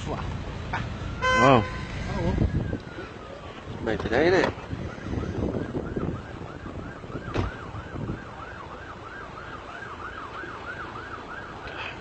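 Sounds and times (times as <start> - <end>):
police siren yelping: 0.9 - 3.5, 4.7 - 12.0.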